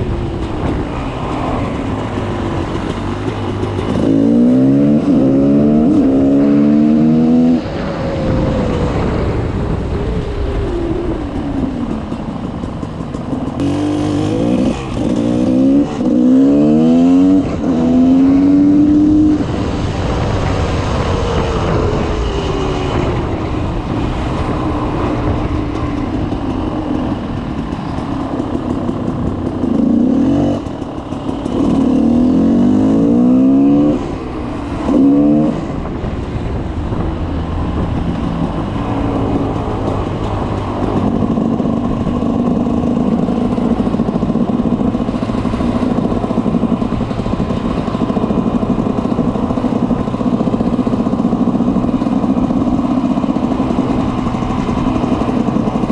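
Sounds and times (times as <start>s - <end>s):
two-stroke engine idling and revving: 0.0s - 55.9s.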